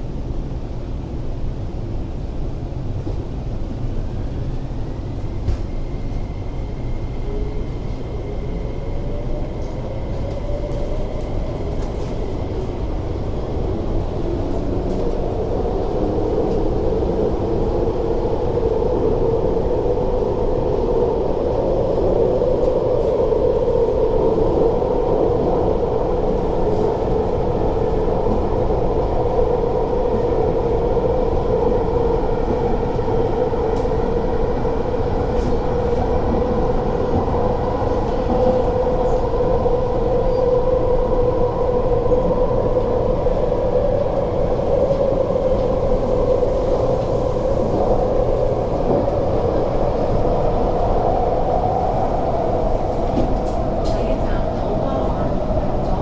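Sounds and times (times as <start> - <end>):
train hum and rumble: 0.0 - 56.0.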